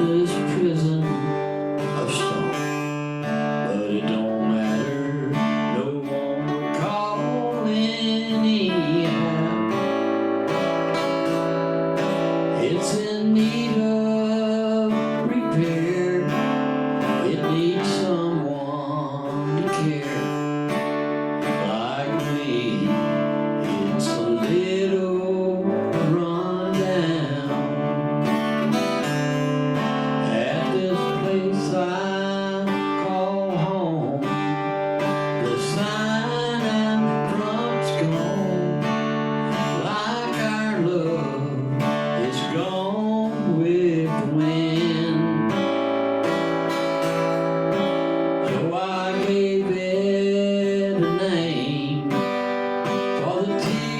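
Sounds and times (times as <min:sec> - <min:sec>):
acoustic guitar strumming: 0:00.0 - 0:53.9
person singing: 0:00.0 - 0:53.9.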